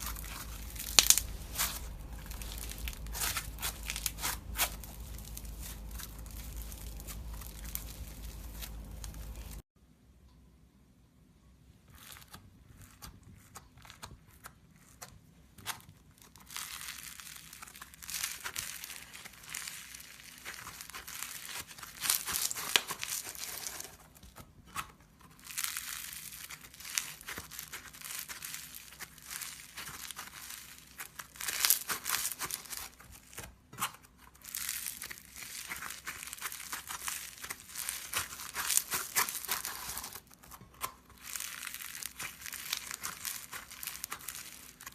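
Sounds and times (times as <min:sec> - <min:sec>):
crunchy slime crackling: 0:00.0 - 0:09.6, 0:11.9 - 0:44.9.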